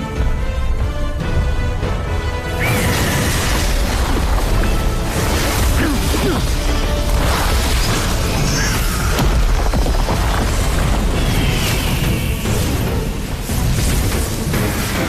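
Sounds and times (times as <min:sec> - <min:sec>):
dramatic film score: 0:00.0 - 0:15.0
rush of noise: 0:02.4 - 0:15.0
booms and crashes: 0:02.5 - 0:15.0.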